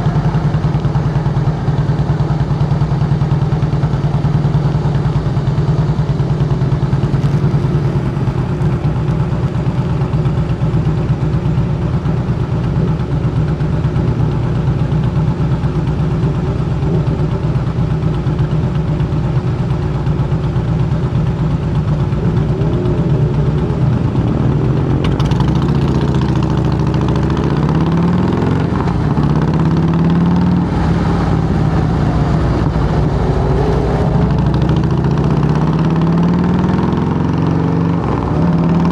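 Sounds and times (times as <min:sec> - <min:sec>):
motorcycle engine idling: 0:00.0 - 0:37.6.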